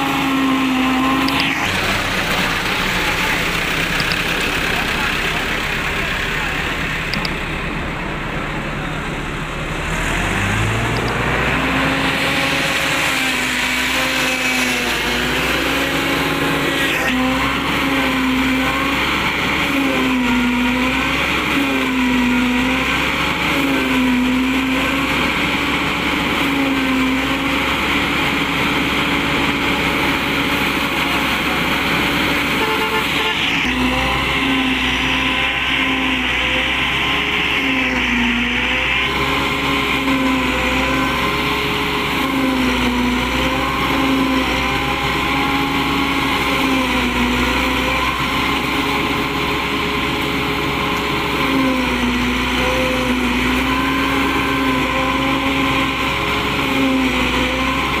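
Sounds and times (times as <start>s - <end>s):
diesel tractor engine: 0.0s - 58.0s.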